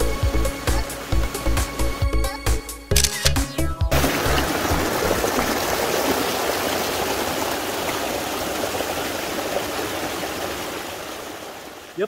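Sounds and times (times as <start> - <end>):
stream rushing over rocks: 0.0 - 1.9, 3.9 - 12.0.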